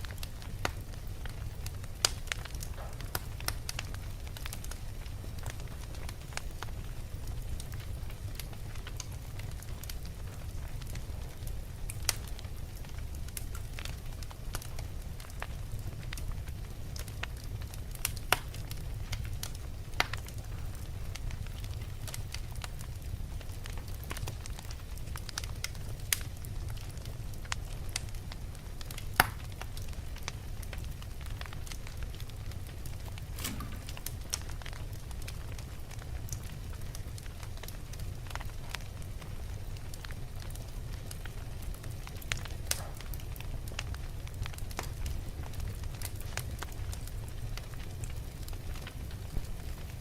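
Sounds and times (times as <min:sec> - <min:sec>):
fire crackles and pops: 0:00.0 - 0:50.0
flames rumbling: 0:00.0 - 0:50.0.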